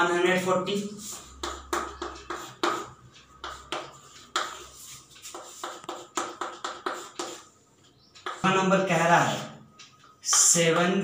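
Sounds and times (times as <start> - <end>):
chalk tapping on chalkboard: 0.0 - 11.0.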